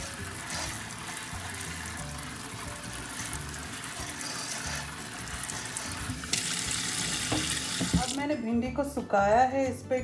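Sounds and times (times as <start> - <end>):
tap water spraying into colander: 0.0 - 8.2
background music: 0.0 - 10.0.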